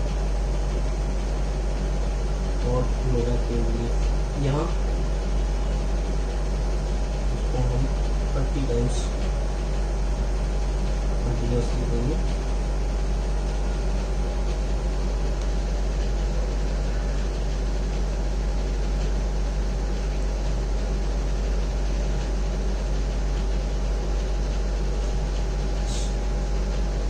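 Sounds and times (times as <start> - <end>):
mechanical hum and hiss: 0.0 - 27.0.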